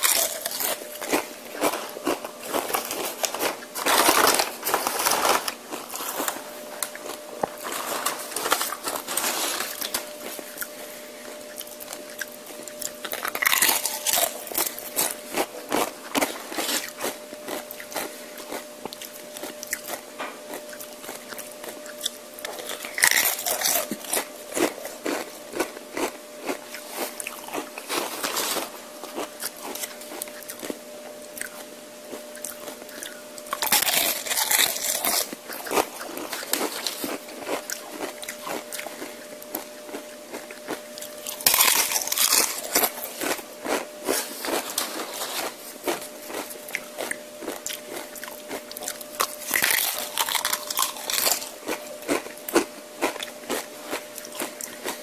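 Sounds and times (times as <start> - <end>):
crunching tortilla chips: 0.0 - 30.8, 31.4 - 55.0
quiet chewing: 5.7 - 55.0.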